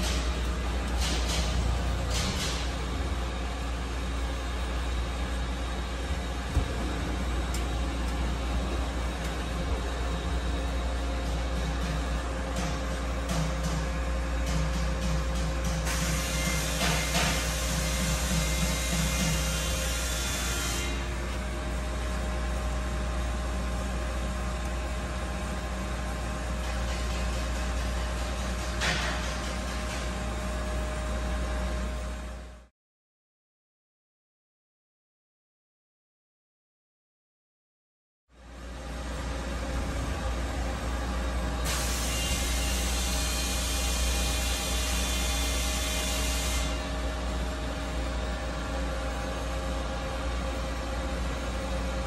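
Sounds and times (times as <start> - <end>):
machine mechanical hum: 0.0 - 32.7, 38.3 - 52.0.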